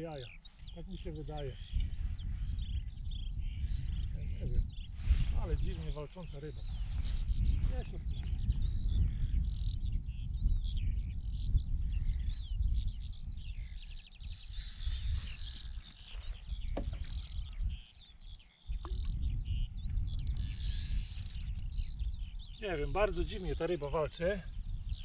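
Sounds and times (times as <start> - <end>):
small birds chirping and twittering: 0.0 - 25.0.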